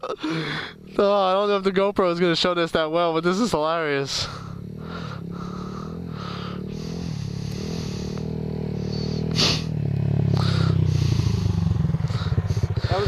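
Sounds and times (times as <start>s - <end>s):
motorcycle engine revving: 0.2s - 2.1s, 3.2s - 13.0s.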